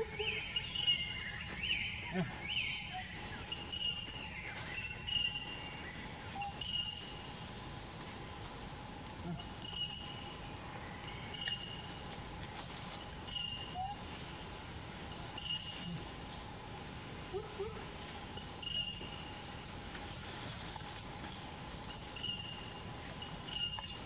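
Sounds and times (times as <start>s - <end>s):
insects chirring drone: 0.0s - 24.0s.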